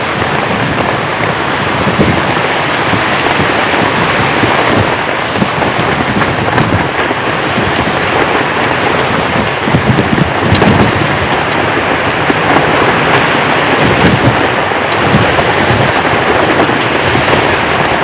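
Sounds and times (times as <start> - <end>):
heavy rain downpour: 0.0 - 18.0.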